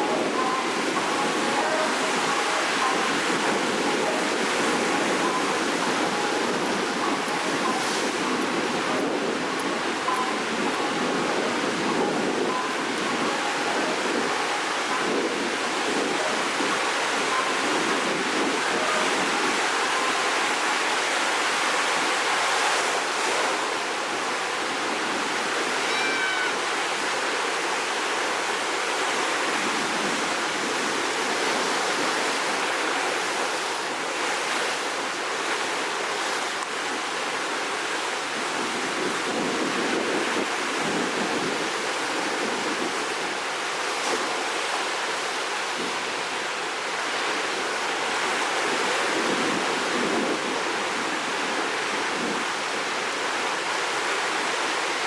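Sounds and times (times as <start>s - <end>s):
surf washing in: 0.0s - 55.0s.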